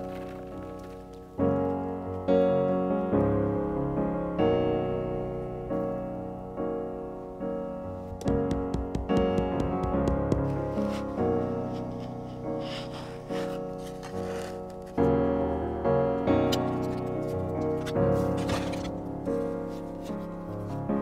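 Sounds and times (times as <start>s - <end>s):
piano chords: 0.0s - 21.0s.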